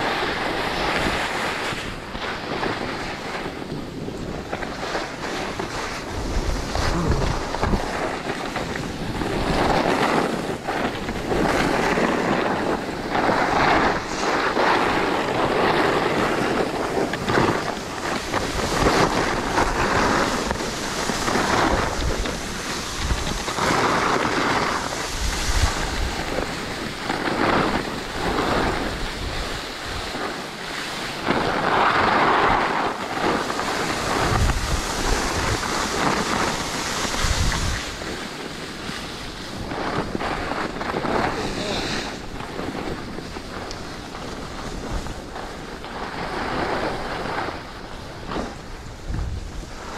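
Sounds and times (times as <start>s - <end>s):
skis hissing on snow: 0.0s - 49.9s
wind on microphone: 0.0s - 49.9s.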